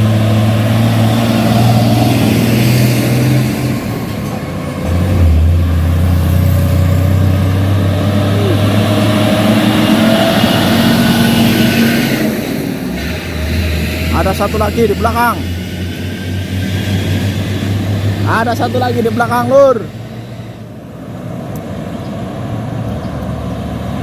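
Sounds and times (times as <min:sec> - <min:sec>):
diesel truck engine labouring: 0:00.0 - 0:24.0.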